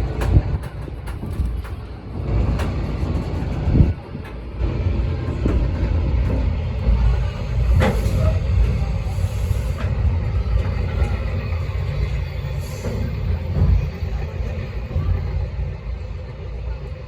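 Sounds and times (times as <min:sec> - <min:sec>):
train coach rumbling: 0:00.0 - 0:17.0.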